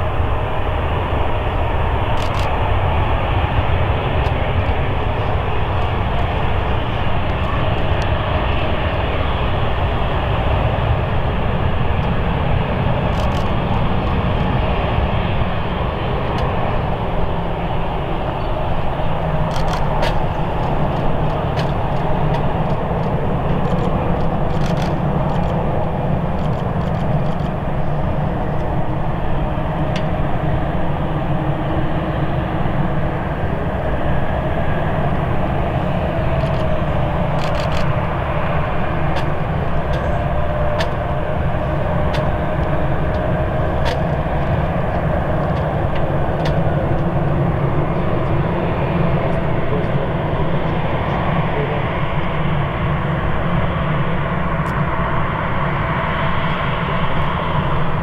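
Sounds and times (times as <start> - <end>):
jet engines taxiing: 0.0 - 58.0.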